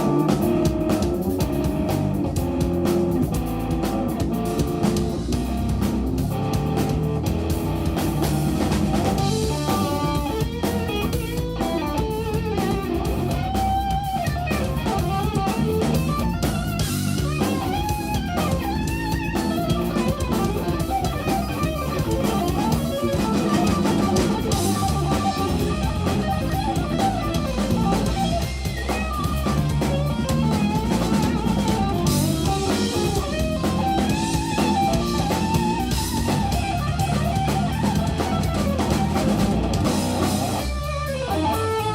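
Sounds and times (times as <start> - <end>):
bass: 0.0 - 41.9
drum kit: 0.0 - 41.9
electric guitar melody: 0.0 - 41.9.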